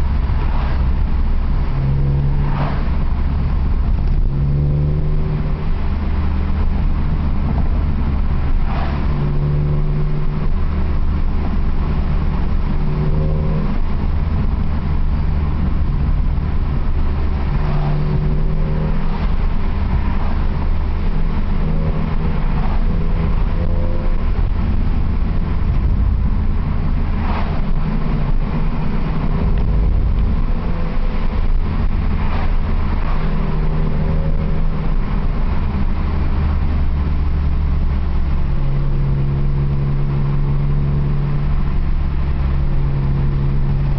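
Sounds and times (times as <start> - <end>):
car exhaust drone: 0.0 - 43.9.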